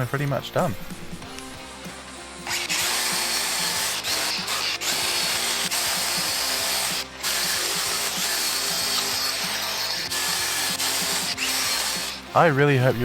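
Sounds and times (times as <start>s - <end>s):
wire wheel scrubbing steel: 0.0s - 13.0s.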